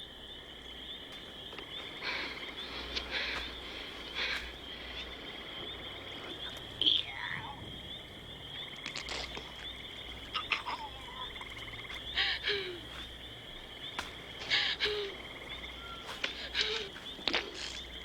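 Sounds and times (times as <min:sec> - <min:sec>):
frog calls: 0:00.0 - 0:18.0
insect trill: 0:00.0 - 0:18.0.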